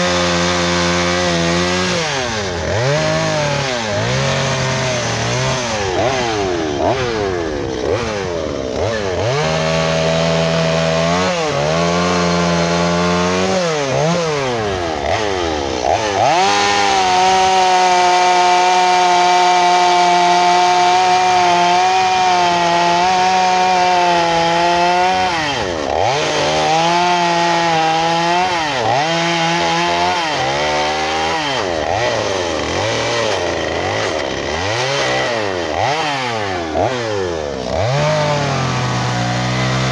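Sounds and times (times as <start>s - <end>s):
chainsaw cutting log revving: 0.0s - 39.9s.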